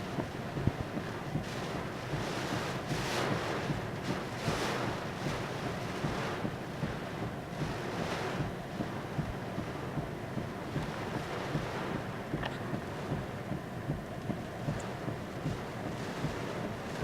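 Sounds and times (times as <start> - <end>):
hurricane winds gusting: 0.0 - 17.0.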